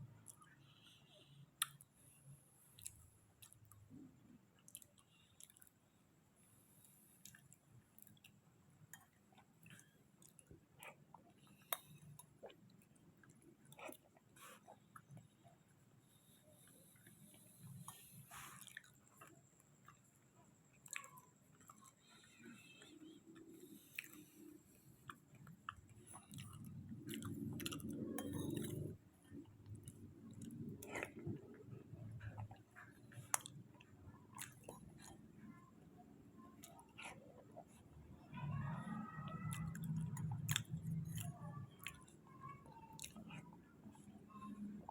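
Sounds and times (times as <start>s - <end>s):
close chewing with mouth clicks: 1.6s - 2.0s, 2.7s - 5.8s, 6.8s - 44.9s.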